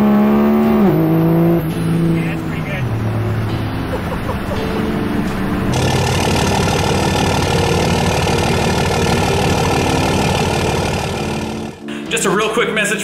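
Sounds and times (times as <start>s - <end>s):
diesel truck engine running: 0.0s - 11.9s.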